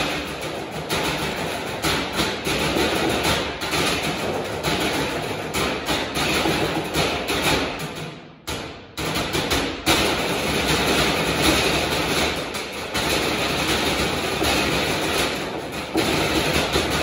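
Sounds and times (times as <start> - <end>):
drumming on metal trash cans: 0.0 - 17.0.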